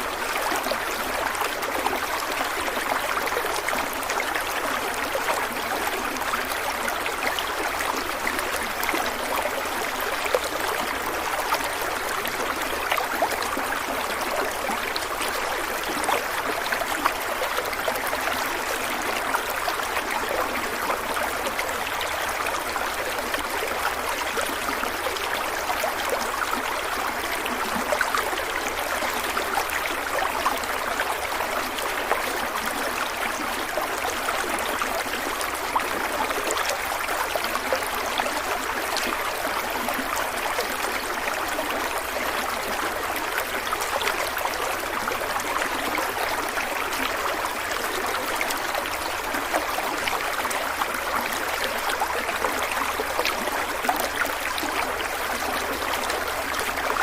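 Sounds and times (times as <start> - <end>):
stream of water trickling: 0.0 - 57.0.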